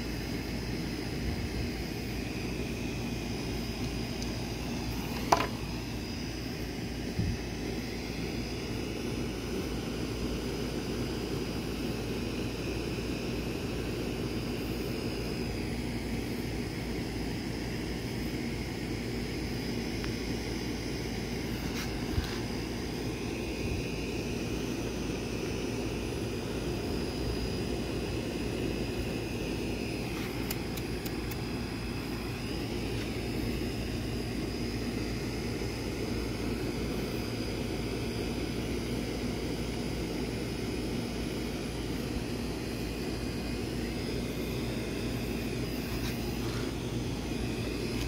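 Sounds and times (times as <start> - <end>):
faint high whine: 0.0 - 48.0
low mechanical drone: 0.0 - 48.0.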